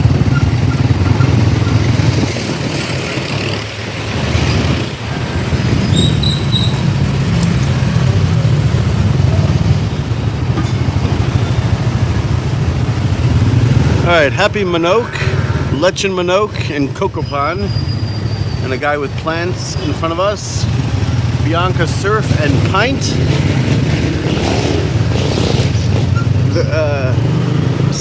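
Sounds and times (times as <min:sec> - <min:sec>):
motorcycle engine running: 0:00.0 - 0:15.8, 0:17.8 - 0:28.0.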